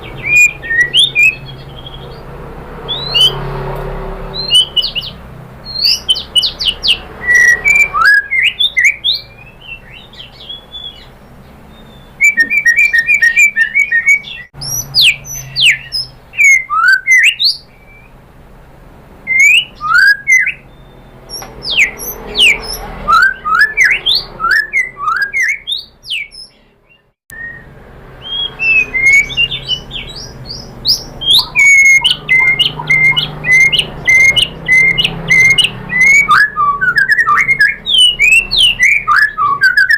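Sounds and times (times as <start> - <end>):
bird singing whistles and trills: 0.0 - 2.2, 2.8 - 3.4, 4.3 - 18.2, 19.3 - 39.9.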